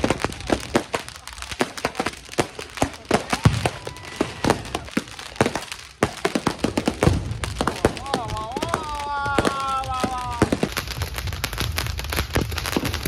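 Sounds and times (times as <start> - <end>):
firecrackers cracking and popping: 0.0 - 13.0.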